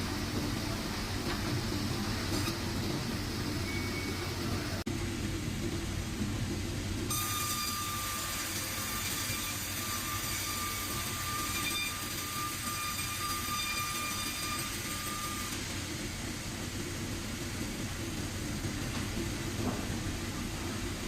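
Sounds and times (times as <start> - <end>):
sawmill machinery rumbling: 0.0 - 21.0.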